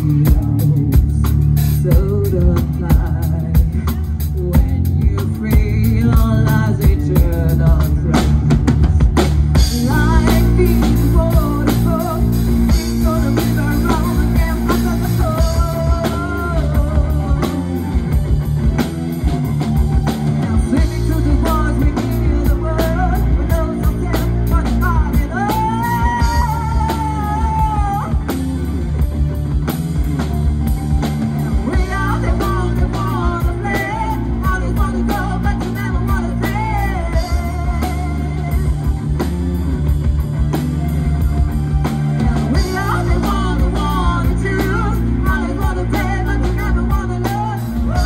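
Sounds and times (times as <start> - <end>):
song with singing and drums: 0.0 - 48.0.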